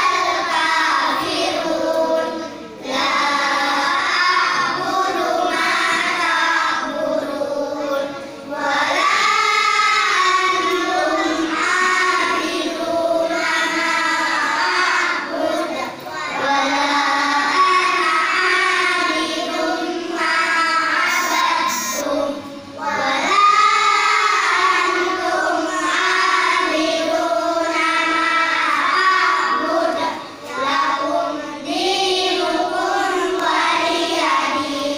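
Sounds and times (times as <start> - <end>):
children chanting in unison: 0.0 - 34.9.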